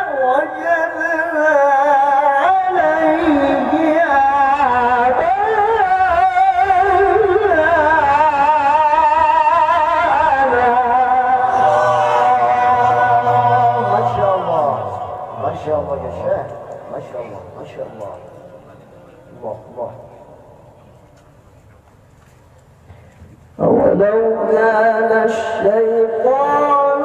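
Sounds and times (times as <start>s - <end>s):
man reciting melodically: 0.0s - 20.5s, 23.6s - 27.0s.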